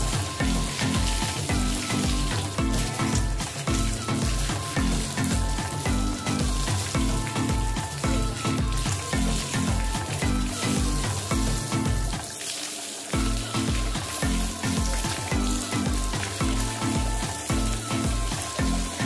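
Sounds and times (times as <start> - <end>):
background music with bass beat: 0.0 - 12.3, 13.2 - 19.0
garden hose spraying water: 0.0 - 19.0.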